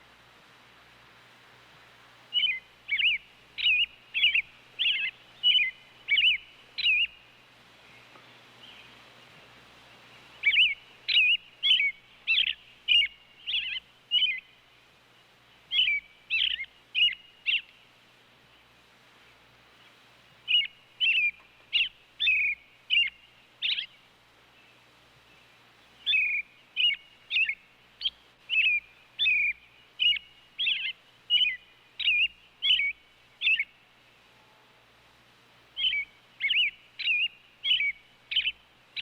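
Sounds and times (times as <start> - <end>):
robin singing: 2.3 - 34.2, 35.6 - 39.0.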